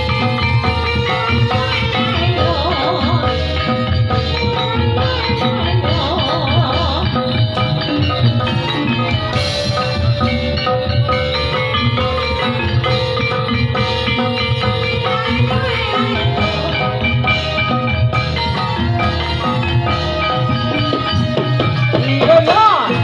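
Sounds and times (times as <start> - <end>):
drums and mallet percussion: 0.0 - 23.0
wavering melody line: 0.0 - 23.0.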